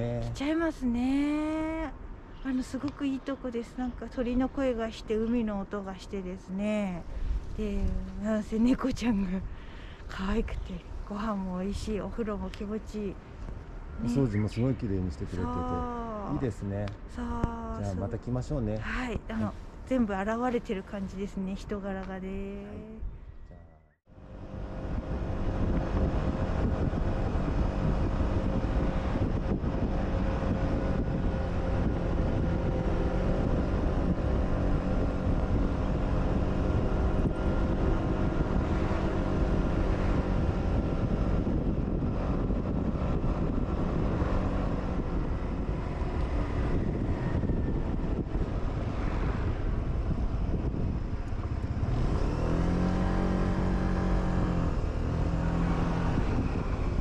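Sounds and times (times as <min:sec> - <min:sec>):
wind rushing over microphone: 0:04.2 - 0:23.5, 0:24.2 - 0:57.0.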